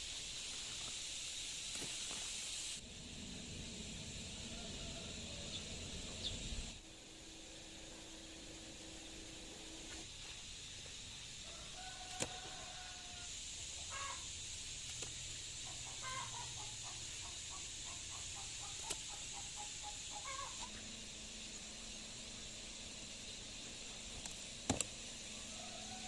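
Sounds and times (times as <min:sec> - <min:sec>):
steady high hiss: 0:00.0 - 0:26.0.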